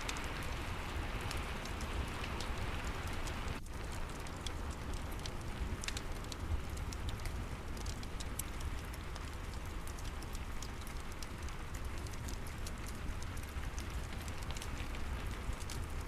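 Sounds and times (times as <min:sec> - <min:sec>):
steady rain falling: 0:00.0 - 0:16.0
wood fire crackling: 0:00.0 - 0:16.0.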